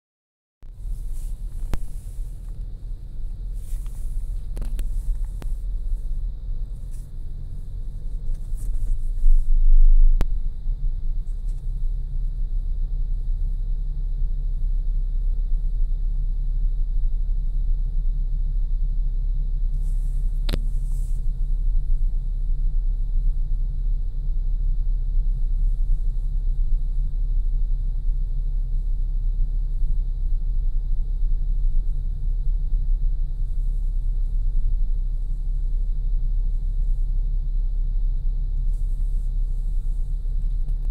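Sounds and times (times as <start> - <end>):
car engine and tyres rumbling: 0.6 - 40.9.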